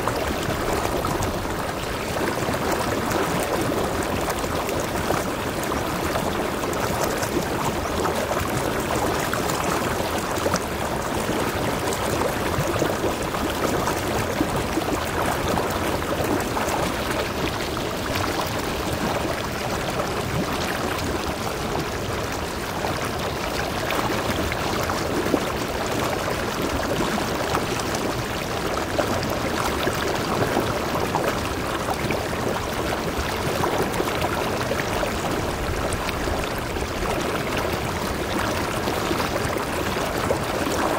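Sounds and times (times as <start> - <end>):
water pouring over rocks: 0.0 - 40.9.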